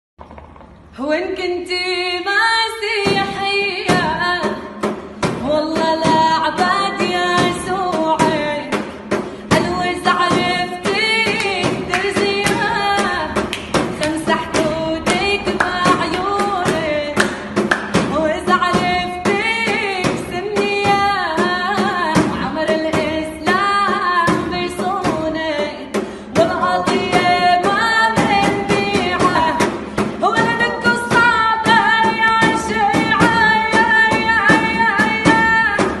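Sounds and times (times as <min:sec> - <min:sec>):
woman singing: 0:01.0 - 0:36.0
percussive beat and instruments: 0:02.8 - 0:36.0.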